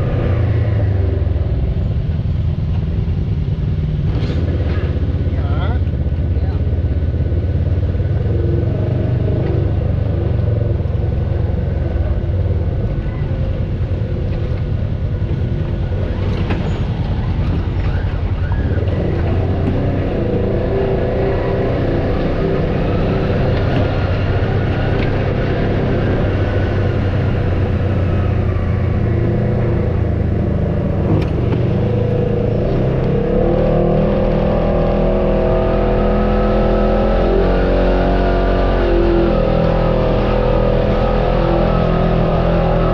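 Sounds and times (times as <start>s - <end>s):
off-road vehicle engine under load: 0.0s - 42.9s.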